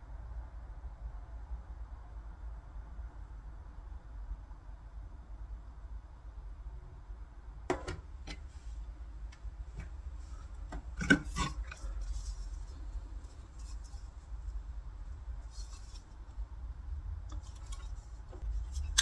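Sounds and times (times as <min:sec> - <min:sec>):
low steady hum: 0:00.8 - 0:19.0.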